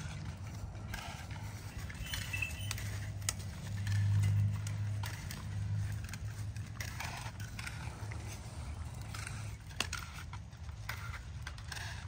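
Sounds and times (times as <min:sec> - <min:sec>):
steady low rumble: 0:00.0 - 0:11.7
vine canes rustling and scraping: 0:00.0 - 0:12.0.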